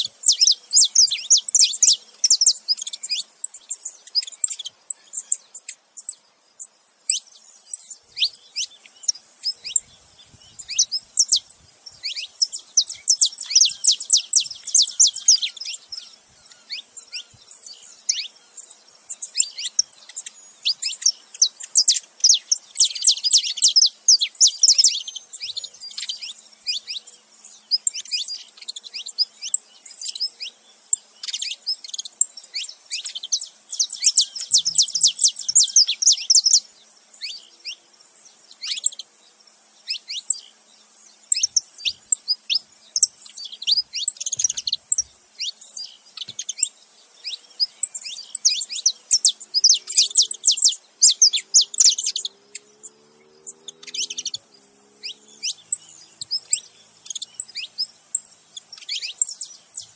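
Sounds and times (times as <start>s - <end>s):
finches calling: 0.0s - 59.9s.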